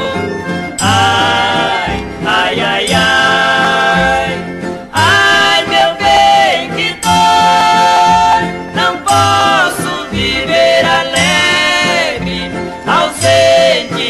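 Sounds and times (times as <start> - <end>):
plucked strings: 0.0 - 14.0
sliding held melody notes: 0.0 - 14.0.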